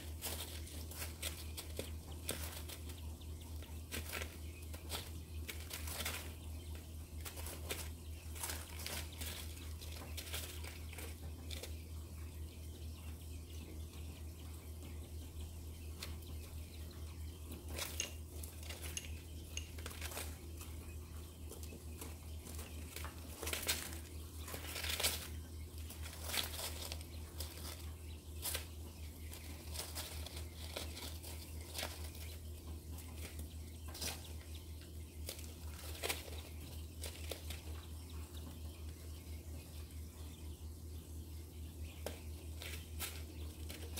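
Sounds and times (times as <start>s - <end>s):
quail scratching and pecking in bedding: 0.0s - 43.9s
steady low hum: 0.0s - 43.9s.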